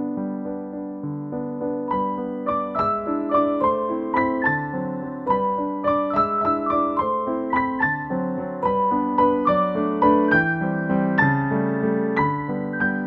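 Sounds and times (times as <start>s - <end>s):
calm piano music: 0.0s - 13.0s.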